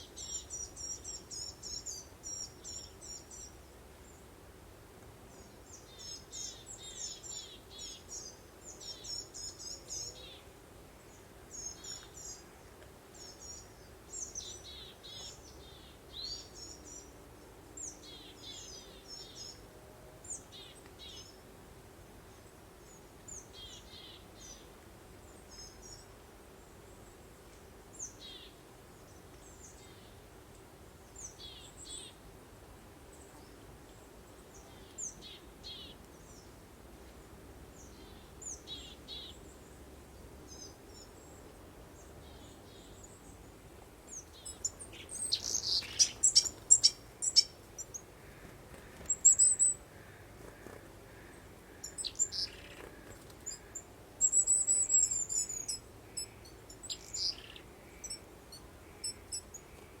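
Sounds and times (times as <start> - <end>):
faint steady hiss: 0.0 - 60.0
songbirds chirping: 0.0 - 60.0.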